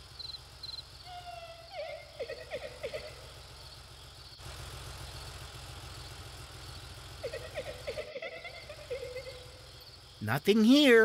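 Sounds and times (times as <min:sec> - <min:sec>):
car engine humming: 0:00.0 - 0:11.0
insects chirping: 0:00.0 - 0:11.0.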